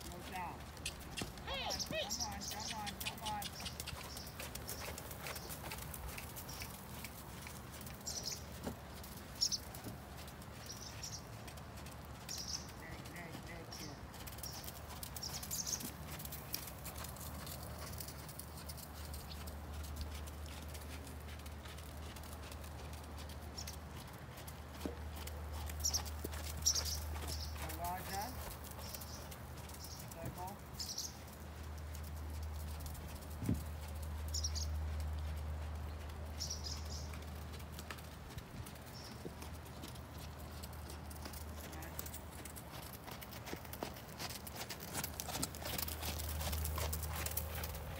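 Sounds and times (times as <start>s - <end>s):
horse hoofbeats: 0.0s - 47.9s.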